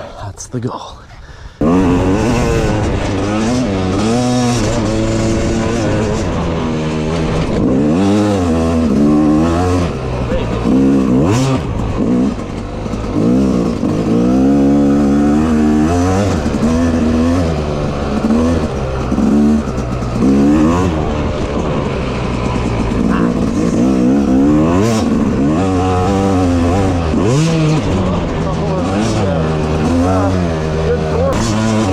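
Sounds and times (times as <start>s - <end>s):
dirt bike engine revving: 1.6s - 31.9s.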